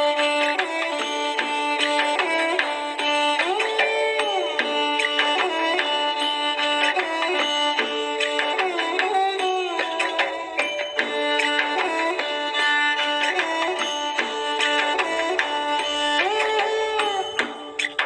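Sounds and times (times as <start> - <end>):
quick percussion strikes: 0.0 - 18.0.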